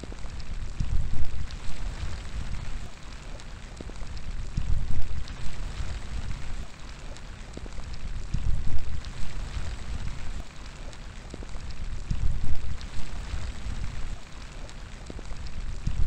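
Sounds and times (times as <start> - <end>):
low wind: 0.0 - 16.0
rain with drops striking: 0.0 - 16.0.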